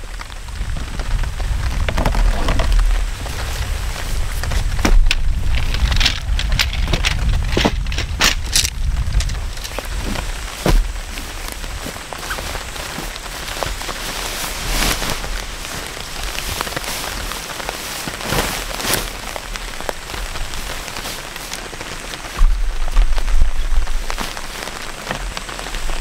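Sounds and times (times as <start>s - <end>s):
rain falling on a deck: 0.0s - 26.0s
tent fabric rustling and flapping: 0.0s - 26.0s
wind gusts on microphone: 0.0s - 26.0s.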